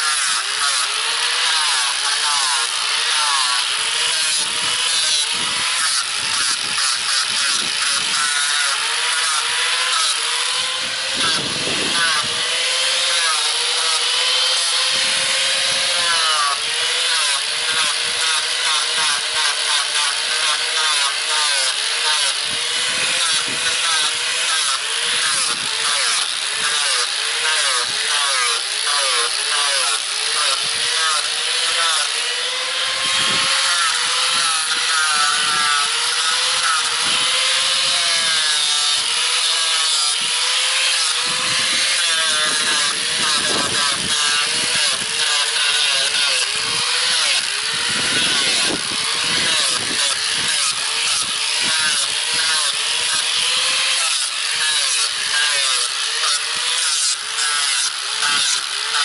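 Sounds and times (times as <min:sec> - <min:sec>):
angle grinder sanding wood: 0:00.0 - 0:59.0.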